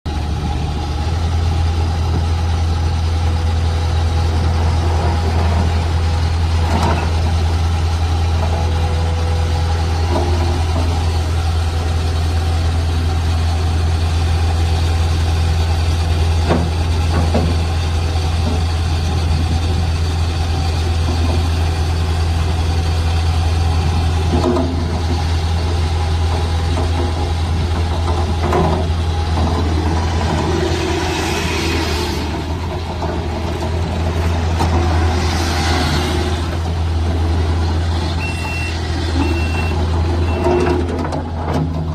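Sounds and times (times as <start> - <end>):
diesel engine idling: 0.1 - 41.9.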